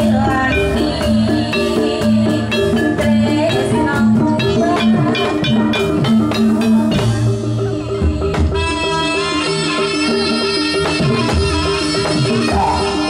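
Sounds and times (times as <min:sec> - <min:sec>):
drums: 0:00.0 - 0:13.0
metallophone melody: 0:00.0 - 0:13.0.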